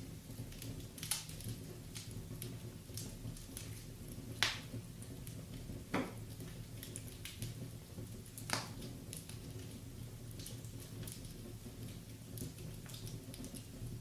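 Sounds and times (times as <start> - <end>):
loud fire pops: 0.0 - 14.0
wood fire crackling: 0.0 - 14.0.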